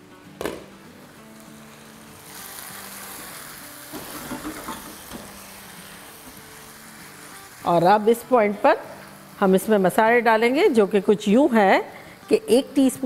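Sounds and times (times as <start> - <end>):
potatoes sizzling in a pan: 0.8 - 13.0.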